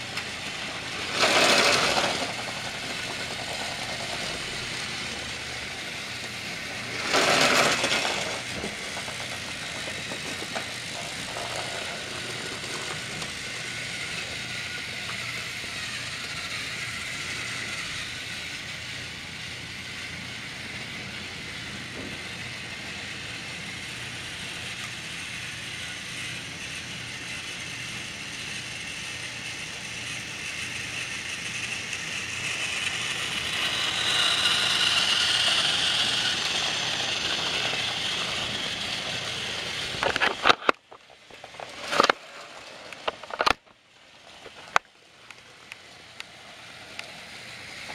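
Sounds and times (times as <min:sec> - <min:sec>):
toy train motors whirring: 0:00.0 - 0:47.9.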